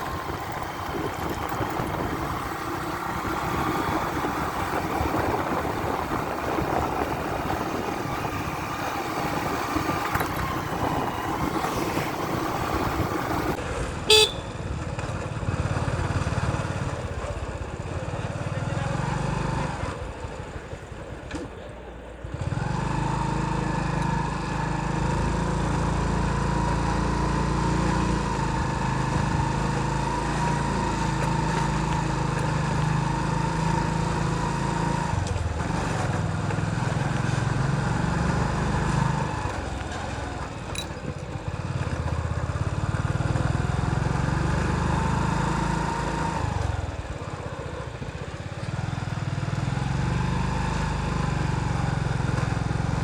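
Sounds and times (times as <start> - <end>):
motorcycle engine under load: 0.0 - 53.0.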